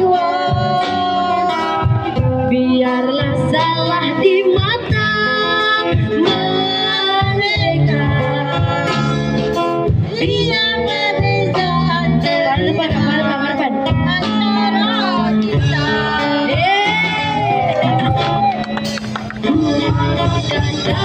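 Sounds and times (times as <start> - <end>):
woman singing pop song: 0.0 - 18.6, 19.4 - 21.0
steady bass line: 0.0 - 21.0.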